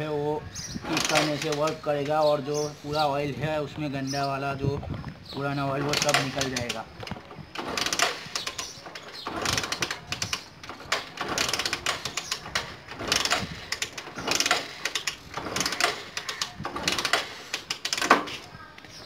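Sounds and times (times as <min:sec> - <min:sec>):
motorcycle kick-starter clattering: 0:00.5 - 0:02.8, 0:04.8 - 0:19.0.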